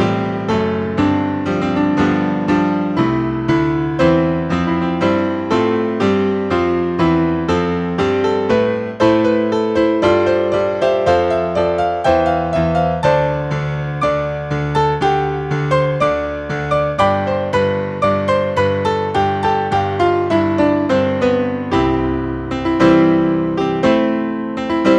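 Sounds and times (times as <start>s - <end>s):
solo piano music: 0.0s - 24.9s.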